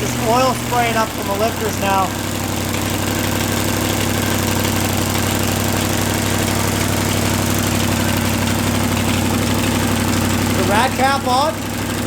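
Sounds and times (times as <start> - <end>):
engine running roughly: 0.0 - 12.0.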